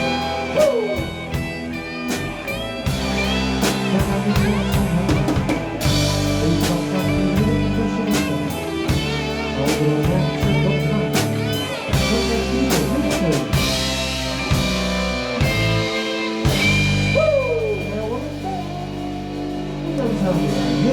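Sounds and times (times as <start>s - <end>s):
bass: 0.0s - 20.9s
drum kit: 0.0s - 20.9s
electric guitar bending notes: 0.0s - 20.9s
keyboard: 0.0s - 20.9s.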